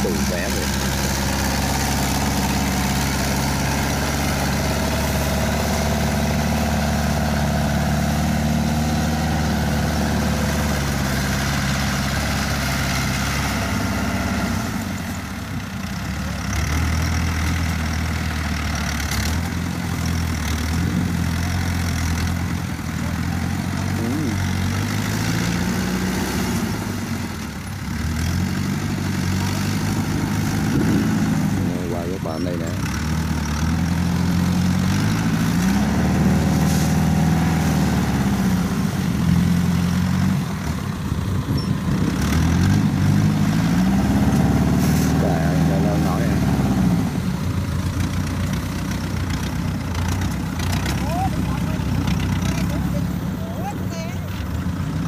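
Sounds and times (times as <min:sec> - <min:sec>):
tracked tractor engine running: 0:00.0 - 0:55.0.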